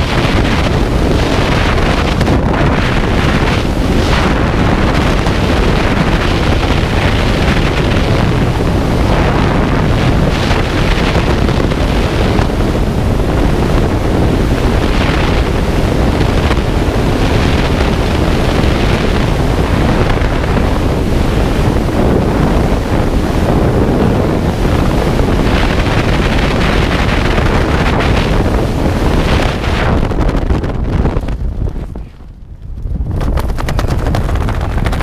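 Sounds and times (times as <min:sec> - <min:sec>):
freefall wind blasting microphone: 0:00.0 - 0:35.0.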